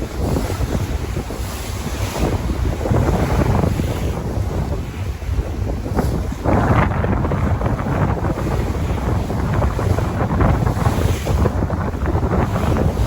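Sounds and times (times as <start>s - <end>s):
ocean waves washing in: 0.0s - 13.0s
wind rumbling on microphone: 0.0s - 13.0s.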